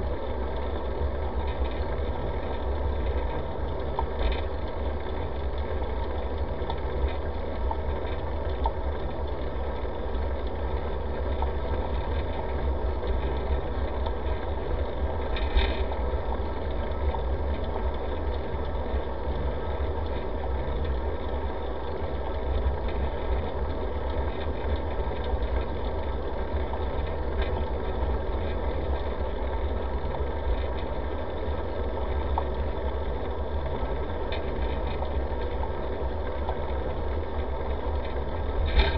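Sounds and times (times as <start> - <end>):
bicycle tyres rumbling on pavement: 0.0 - 38.9.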